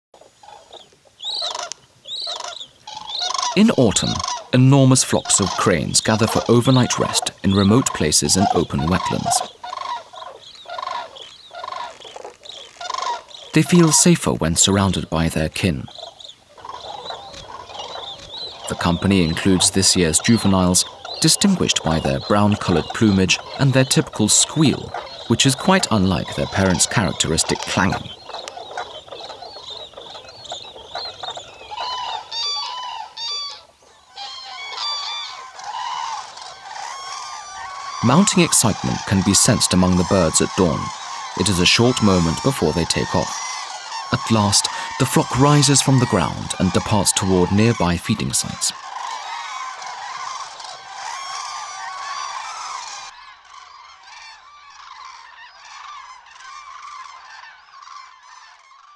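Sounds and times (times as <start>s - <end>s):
adult cranes clanging calls: 0.2s - 58.9s
juvenile cranes squealing: 0.2s - 58.9s.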